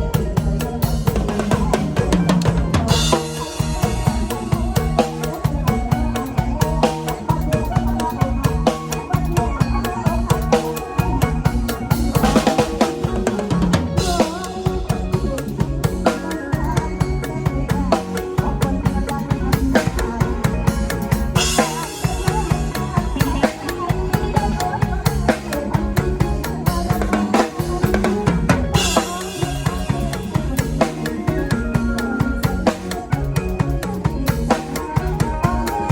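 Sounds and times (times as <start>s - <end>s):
bass and melody notes: 0.0s - 35.9s
drum kit fast beat: 0.0s - 35.9s.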